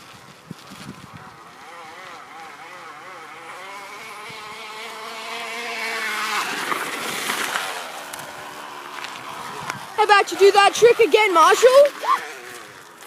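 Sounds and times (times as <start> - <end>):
bottle buzzing against bicycle spokes: 0.6 - 13.0.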